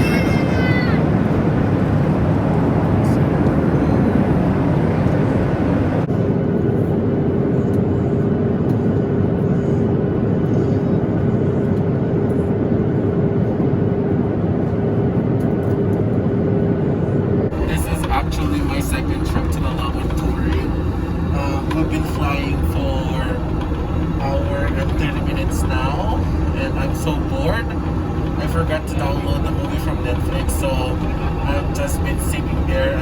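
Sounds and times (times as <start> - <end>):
airplane cabin noise: 0.0 - 33.0
steady hum: 0.0 - 33.0.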